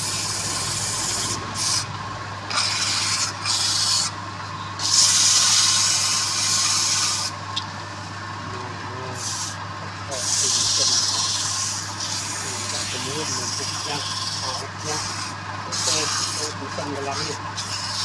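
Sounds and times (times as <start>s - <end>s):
wood being sanded: 0.0s - 1.9s, 2.5s - 4.2s, 4.8s - 7.4s, 9.2s - 18.0s.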